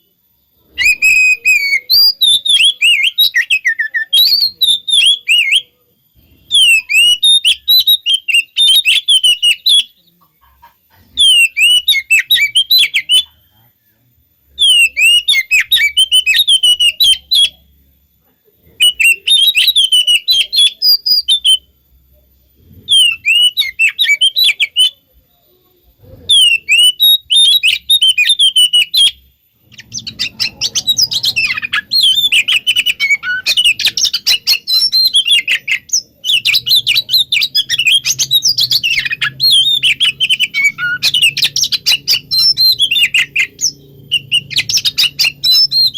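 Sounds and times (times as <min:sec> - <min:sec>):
bird singing whistled phrases: 0:00.7 - 0:05.8, 0:06.4 - 0:10.0, 0:11.2 - 0:13.4, 0:14.5 - 0:17.6, 0:18.8 - 0:21.7, 0:22.8 - 0:25.6, 0:26.3 - 0:45.9.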